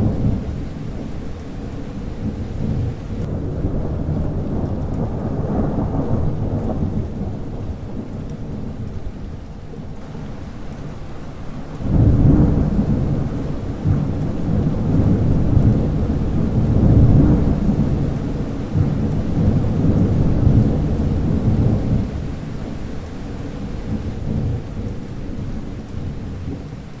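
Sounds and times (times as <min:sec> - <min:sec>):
thunder rumbling: 0:00.0 - 0:10.2, 0:11.7 - 0:27.0
steady rain hissing: 0:00.0 - 0:27.0.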